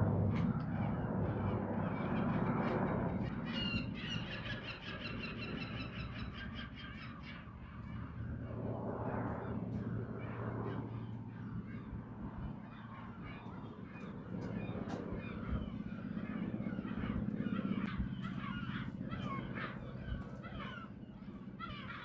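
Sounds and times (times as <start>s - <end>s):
helicopter rotor and engine hum: 0.0s - 4.6s, 7.4s - 22.0s.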